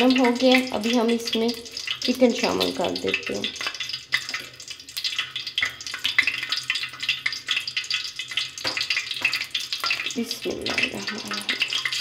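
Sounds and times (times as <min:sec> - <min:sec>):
oil sizzling and popping: 0:00.0 - 0:12.0.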